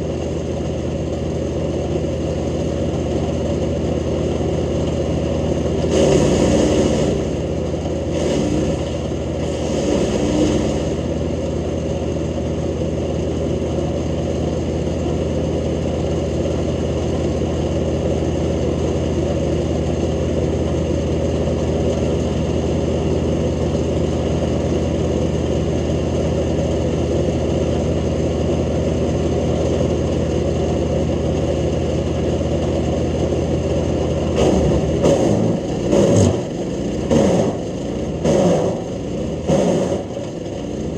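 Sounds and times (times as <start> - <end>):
wood chipper running: 0.0 - 40.9.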